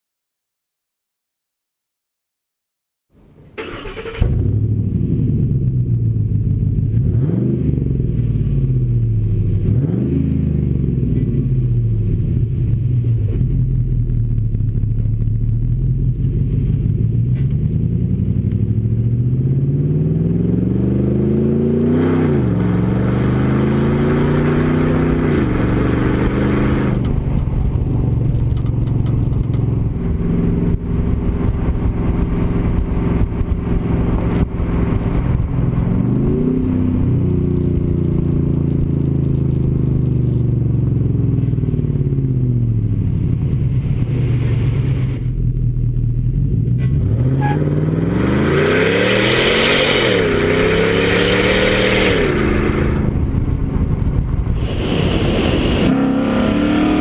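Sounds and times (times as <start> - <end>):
truck engine accelerating: 3.3 - 57.0.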